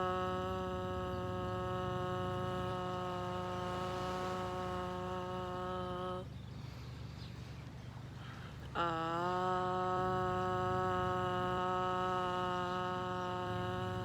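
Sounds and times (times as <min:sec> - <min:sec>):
woman chanting a long ah: 0:00.0 - 0:14.0.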